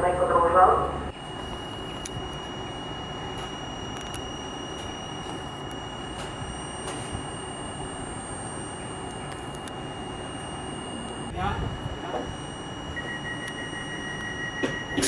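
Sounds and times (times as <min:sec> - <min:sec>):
high-pitched whine: 0:00.0 - 0:15.0
train equipment humming: 0:00.0 - 0:15.0.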